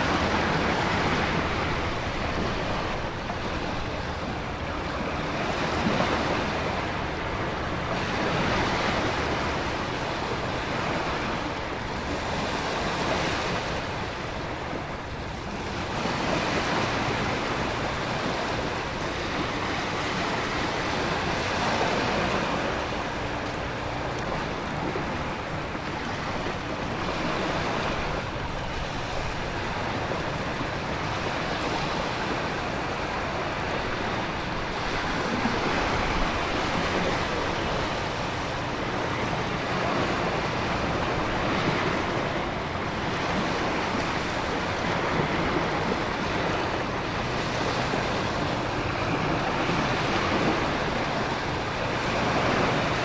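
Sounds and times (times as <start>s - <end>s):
ocean surf: 0.0s - 53.0s
wind: 0.0s - 53.0s.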